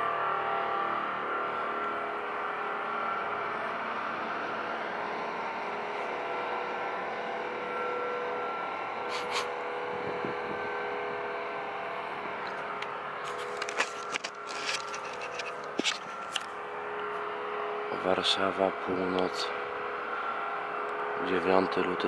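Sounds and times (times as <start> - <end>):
constant noisy rumble: 0.0 - 22.0
droning hum with held tones: 0.0 - 22.0.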